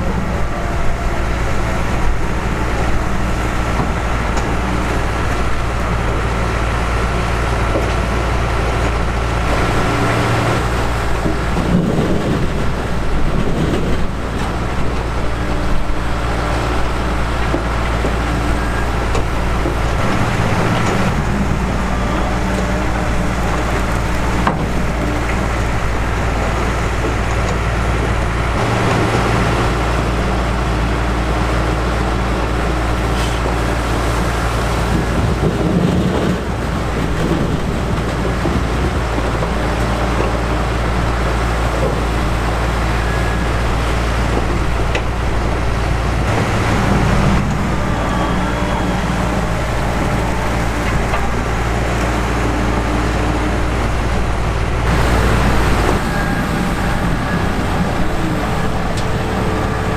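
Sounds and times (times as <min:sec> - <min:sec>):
diesel harvester engine drone: 0:00.0 - 0:59.9.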